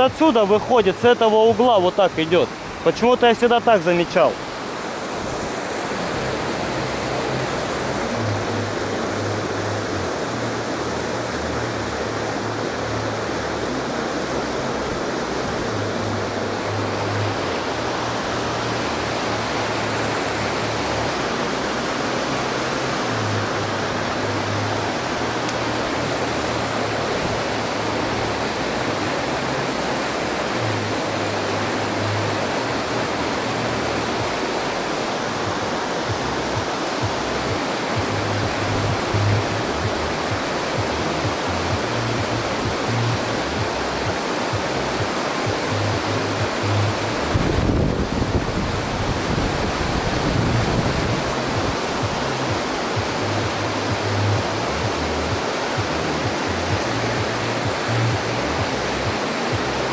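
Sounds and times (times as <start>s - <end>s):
water rushing through a dam: 0.0s - 59.9s.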